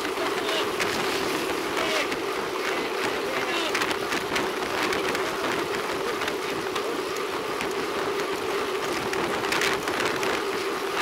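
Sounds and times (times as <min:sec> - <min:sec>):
tyre noise on concrete road: 0:00.0 - 0:11.0
wind rushing over camera: 0:00.0 - 0:11.0.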